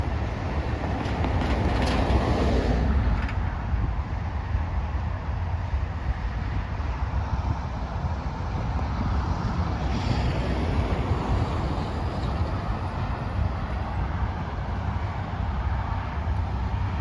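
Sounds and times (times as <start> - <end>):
train passing rumble: 0.0 - 17.0
wind buffeting microphone: 0.0 - 17.0.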